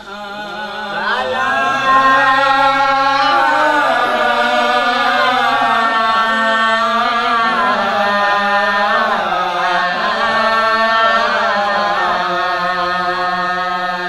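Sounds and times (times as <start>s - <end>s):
man chanting through microphone: 0.0s - 14.0s.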